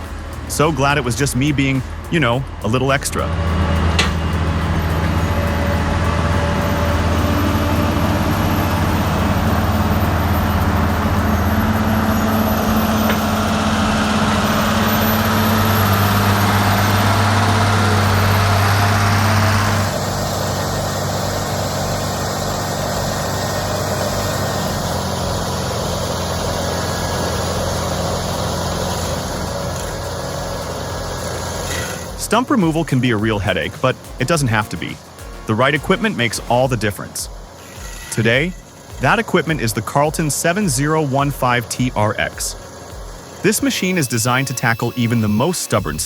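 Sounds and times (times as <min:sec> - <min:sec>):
heavy machinery engine humming: 0:00.0 - 0:46.0.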